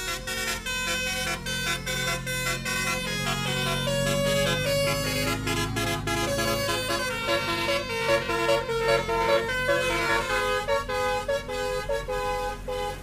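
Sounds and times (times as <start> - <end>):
musical air horn tune: 0.0 - 13.0.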